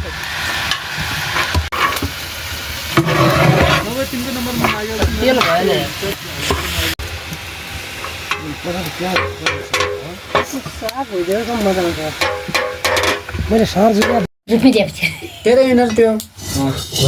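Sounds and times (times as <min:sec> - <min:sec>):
food sizzling in a pan: 0:00.0 - 0:14.3.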